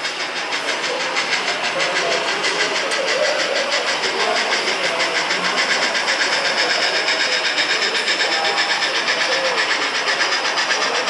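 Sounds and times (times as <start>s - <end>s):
model steam train chuffing: 0.0s - 11.0s.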